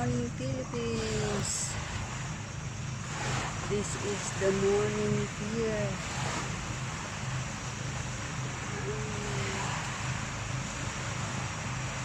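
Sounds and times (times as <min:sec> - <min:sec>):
low steady rumble: 0:00.0 - 0:12.0
sea waves washing on shore: 0:00.0 - 0:12.0.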